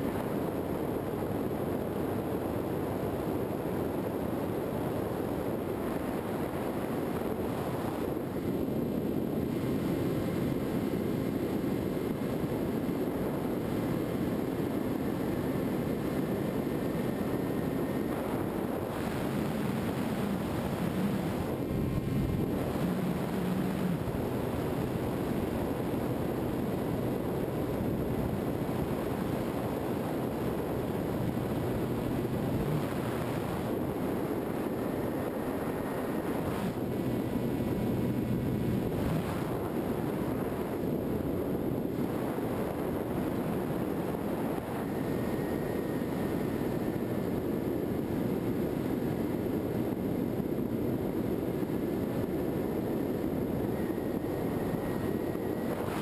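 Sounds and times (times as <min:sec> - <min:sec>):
faint high motor whine: 0:00.0 - 0:56.0
faint steady hum: 0:00.0 - 0:56.0
wind rush and propeller noise: 0:00.0 - 0:56.0.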